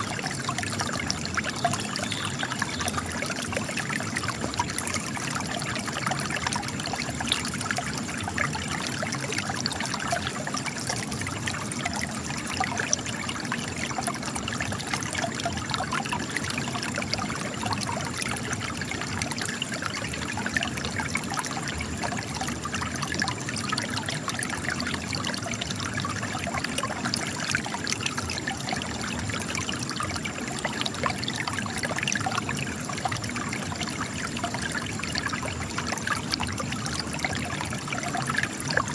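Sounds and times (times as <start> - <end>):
water trickling over rock: 0.0 - 38.9.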